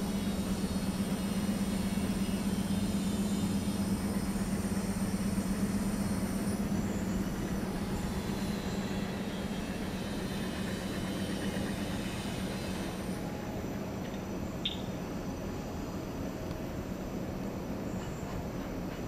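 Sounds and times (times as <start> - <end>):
machine hum with rushing noise: 0.0 - 19.0.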